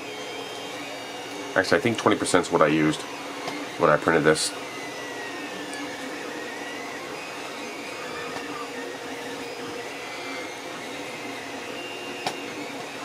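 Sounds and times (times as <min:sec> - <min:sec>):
machine whir: 0:00.0 - 0:13.0.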